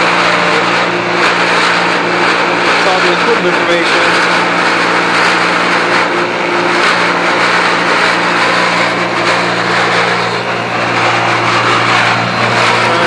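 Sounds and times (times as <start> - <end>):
harsh grinding noise: 0.0 - 13.0.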